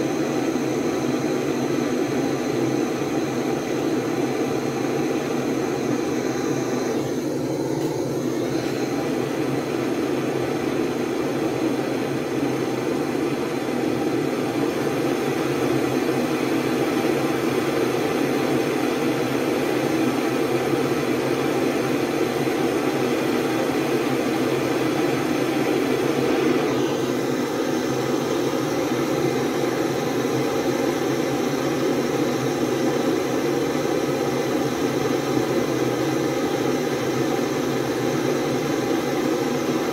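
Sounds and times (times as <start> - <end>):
gas torch burning: 0.0 - 39.9.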